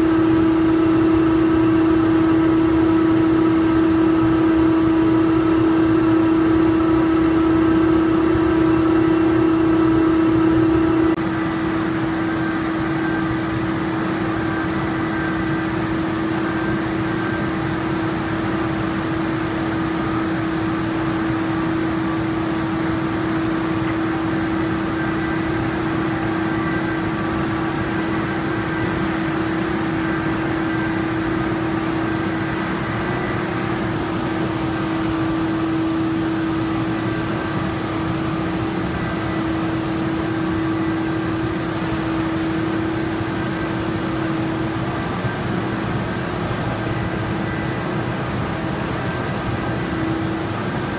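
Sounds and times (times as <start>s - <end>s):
factory machinery hum: 0.0s - 50.9s
high whines: 0.0s - 50.9s.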